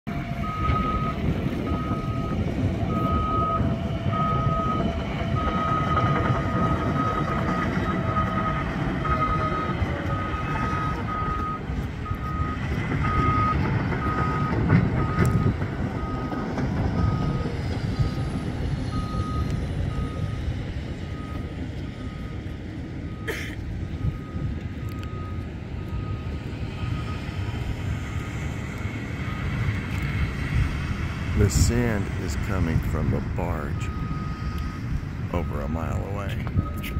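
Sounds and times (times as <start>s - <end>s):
backup alarm beeping: 0.1s - 28.6s, 32.5s - 36.9s
low machinery rumble: 0.1s - 36.9s.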